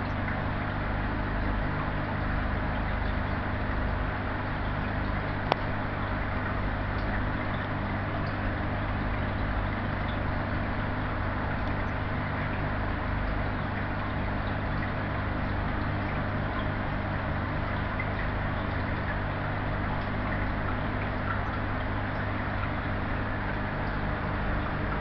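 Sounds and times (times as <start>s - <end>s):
aquarium pump humming and hissing: 0.0s - 25.0s.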